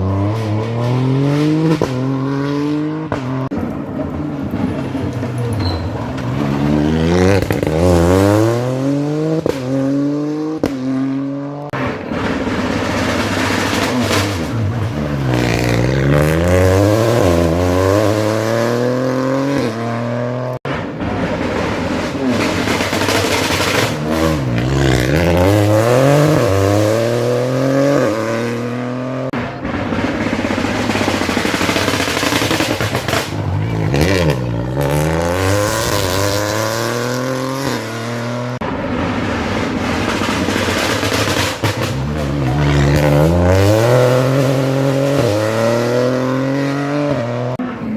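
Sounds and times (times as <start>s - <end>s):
rally cars driving fast: 0.0s - 47.9s.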